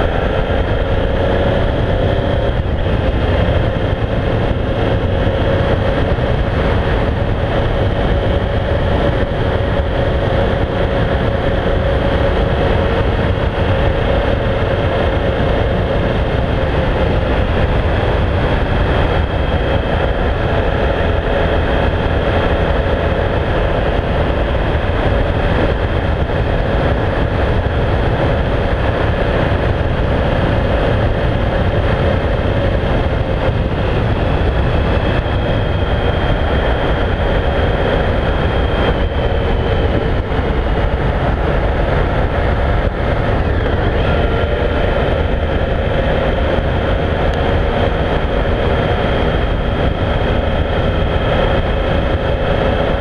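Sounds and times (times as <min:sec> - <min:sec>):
motorcycle engine cruising: 0:00.0 - 0:53.0
wind rush on microphone: 0:00.0 - 0:53.0.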